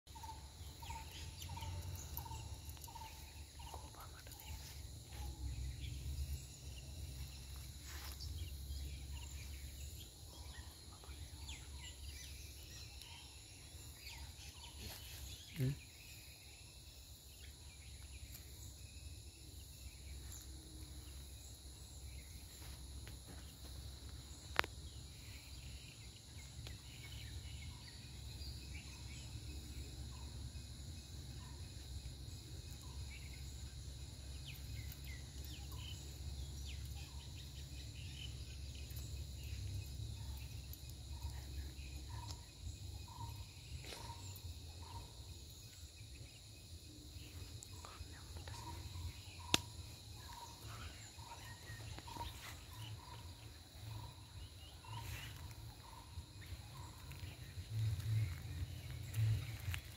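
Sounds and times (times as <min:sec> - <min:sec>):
bird chirps: 0:00.1 - 0:59.9
insect calls: 0:00.1 - 0:59.9.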